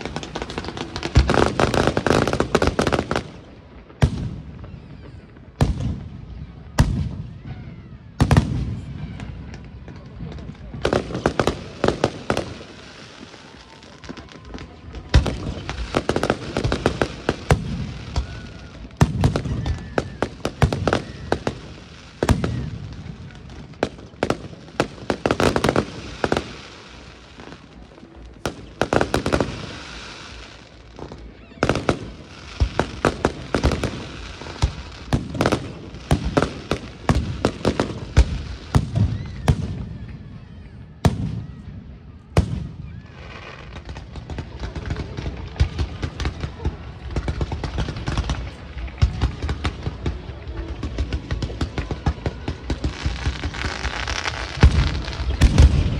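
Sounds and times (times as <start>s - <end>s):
fireworks bursting with sharp bangs: 0.0s - 55.9s.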